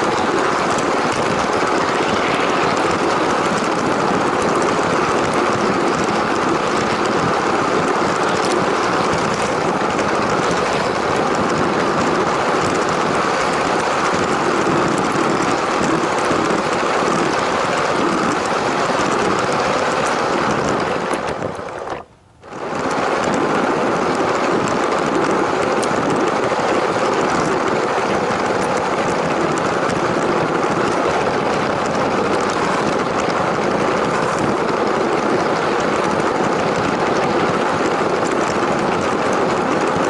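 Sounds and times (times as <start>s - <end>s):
toy train rumbling on track: 0.0s - 40.0s.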